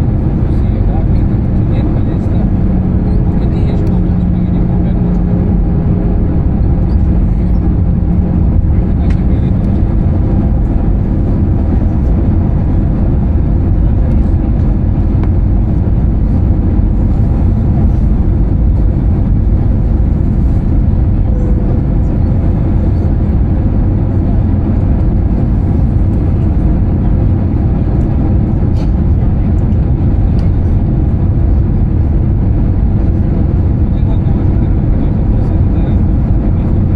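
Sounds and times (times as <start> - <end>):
airliner cabin engine rush: 0.0 - 36.9.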